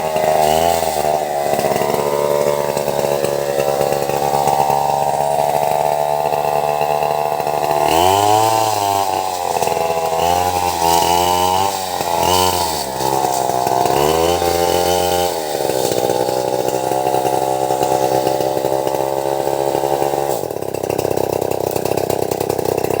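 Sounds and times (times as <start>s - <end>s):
chainsaw running: 0.0s - 23.0s.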